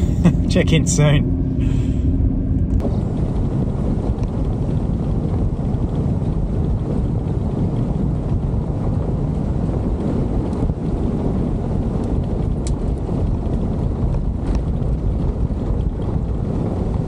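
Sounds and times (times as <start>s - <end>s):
tyre road noise rumble: 0.0s - 17.0s
wind buffeting camera: 0.0s - 17.0s.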